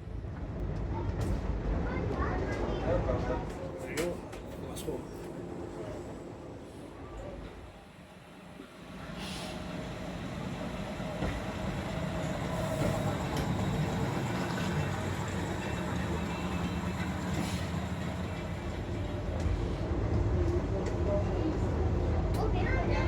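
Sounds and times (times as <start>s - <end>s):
rail noise: 0.0s - 22.9s
diesel railbus engine rumble: 0.0s - 23.0s.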